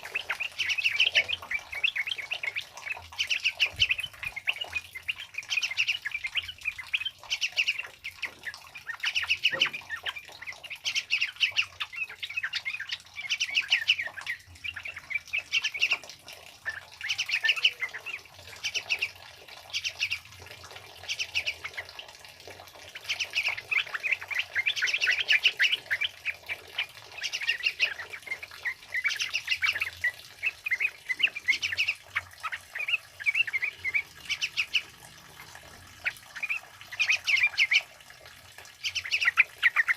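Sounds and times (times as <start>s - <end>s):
bulbuls singing: 0.0s - 39.9s.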